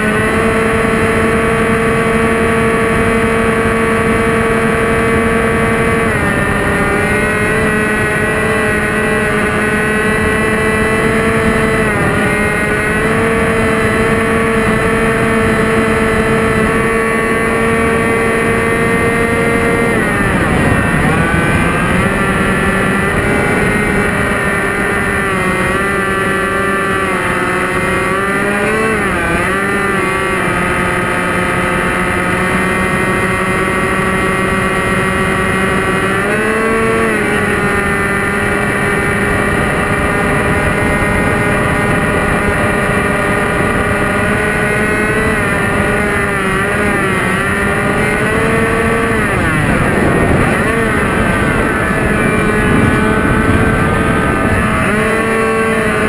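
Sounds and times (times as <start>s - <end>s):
model airplane motors whining: 0.0s - 56.0s
rushing wind: 0.0s - 56.0s.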